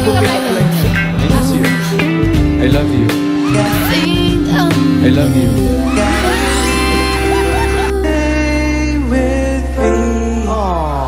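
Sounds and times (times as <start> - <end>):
love song playing: 0.0 - 11.0.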